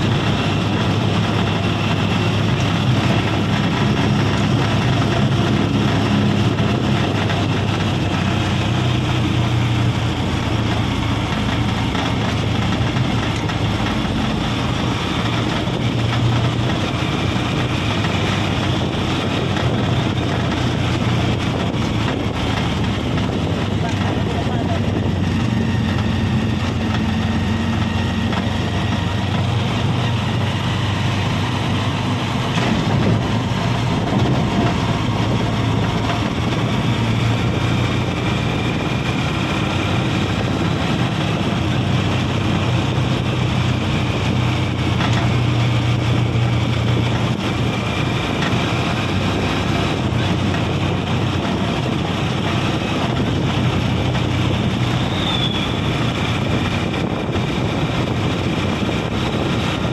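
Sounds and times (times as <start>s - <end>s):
road noise: 0.0s - 59.9s
vehicle engine running: 0.0s - 59.9s.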